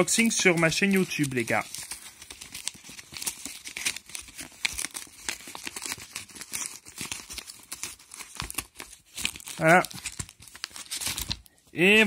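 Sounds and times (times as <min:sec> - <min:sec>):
paper envelope crinkling: 0:00.0 - 0:12.0.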